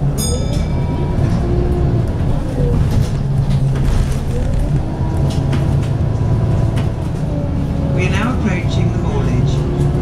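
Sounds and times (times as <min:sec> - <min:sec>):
bus body rattling: 0:00.0 - 0:10.0
bus diesel engine droning: 0:00.0 - 0:10.0.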